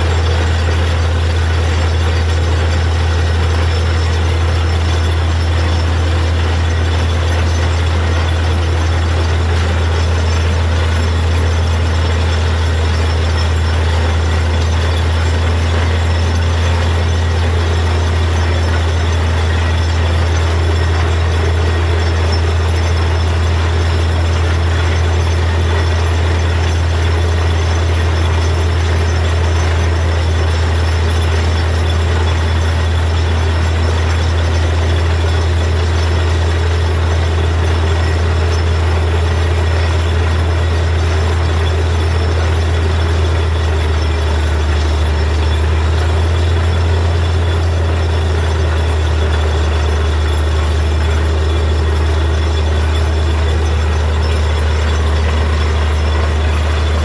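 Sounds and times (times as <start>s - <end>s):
drilling rig drone: 0.0s - 57.0s.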